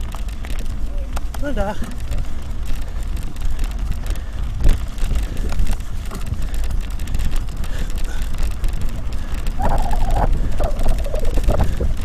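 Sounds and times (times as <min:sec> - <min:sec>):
mountain bike rolling on dirt: 0:00.0 - 0:12.0
wind buffeting microphone: 0:00.0 - 0:12.0.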